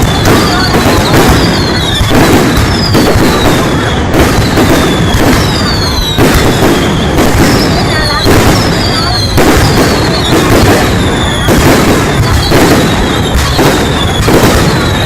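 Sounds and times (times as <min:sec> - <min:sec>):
falling firework whistles: 0:00.0 - 0:15.0
fireworks booms and bursts: 0:00.0 - 0:15.0.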